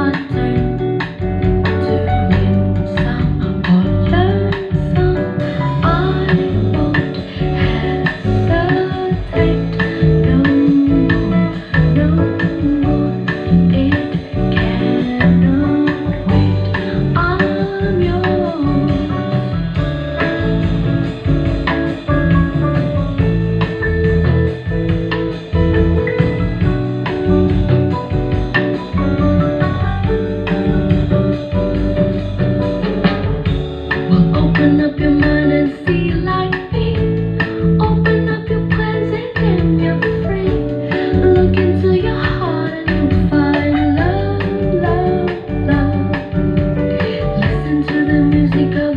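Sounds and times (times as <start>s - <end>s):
song with singing guitar and drums: 0.0s - 48.9s.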